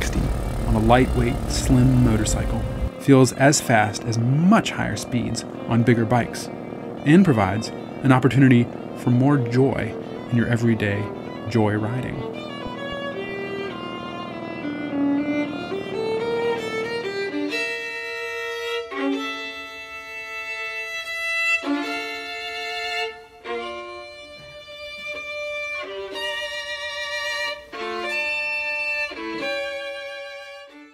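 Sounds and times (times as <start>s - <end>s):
slow melody of held notes: 0.0s - 28.2s.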